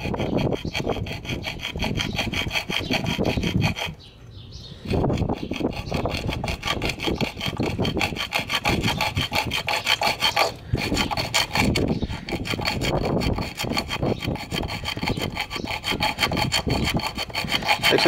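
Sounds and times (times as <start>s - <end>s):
hacksaw rasping on metal: 0.0s - 4.1s, 4.8s - 18.0s.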